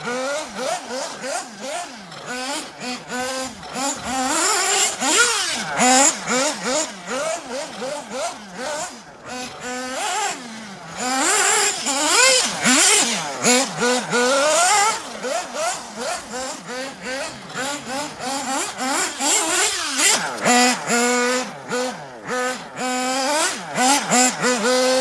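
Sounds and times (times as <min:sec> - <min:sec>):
rc car engine revving: 0:00.0 - 0:25.0.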